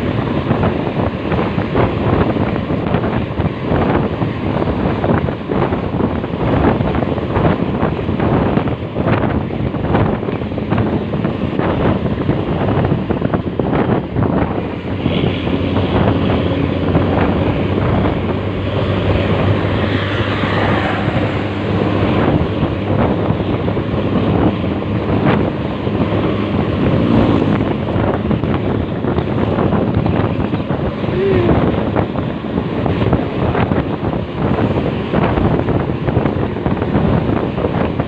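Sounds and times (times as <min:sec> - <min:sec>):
vehicle engine and road noise: 0:00.0 - 0:38.0
wind buffeting microphone: 0:00.0 - 0:38.0.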